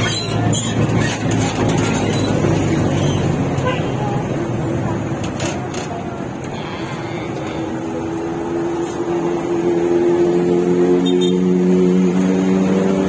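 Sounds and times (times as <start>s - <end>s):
diesel engine accelerating: 0.0s - 13.0s
road noise: 0.0s - 13.0s.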